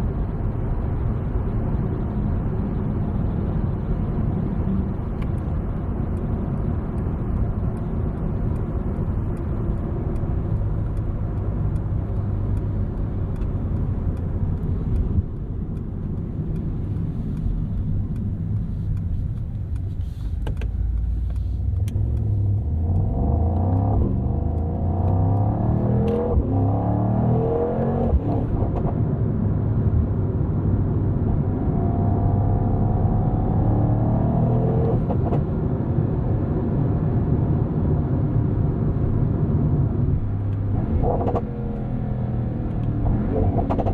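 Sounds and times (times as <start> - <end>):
car engine rumbling and accelerating: 0.0 - 43.9
road noise: 0.0 - 43.9.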